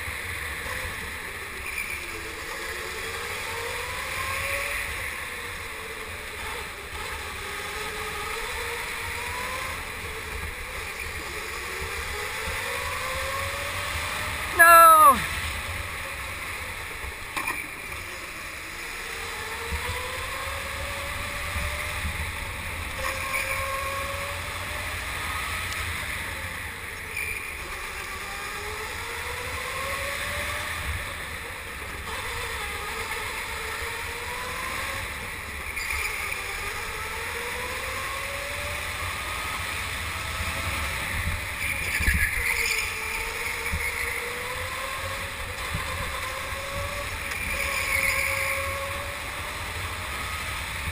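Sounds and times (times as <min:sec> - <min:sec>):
go-kart motor whine: 0:00.3 - 0:50.9.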